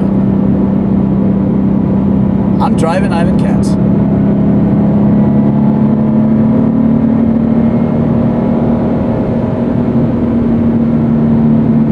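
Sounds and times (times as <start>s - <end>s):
car engine droning: 0.0s - 11.9s
road rumble: 0.0s - 11.9s.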